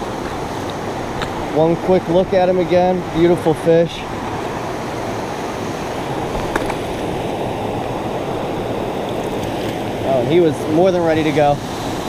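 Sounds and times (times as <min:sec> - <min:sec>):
creek water rushing over rapids: 0:00.0 - 0:12.0.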